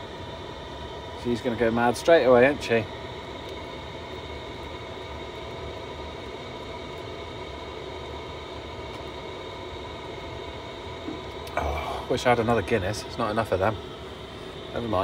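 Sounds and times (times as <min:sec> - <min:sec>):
heater humming with tones: 0:00.0 - 0:15.0.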